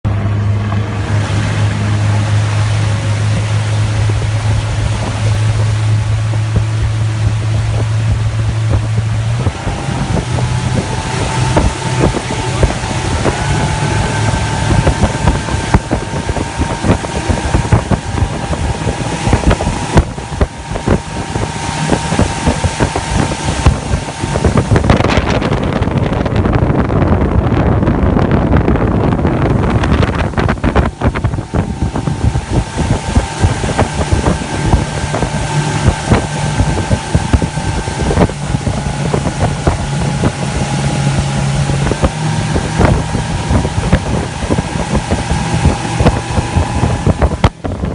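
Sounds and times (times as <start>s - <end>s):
outboard motor running: 0.0s - 47.9s
rush of wind and water: 0.0s - 47.9s
wind buffeting microphone: 0.0s - 47.9s.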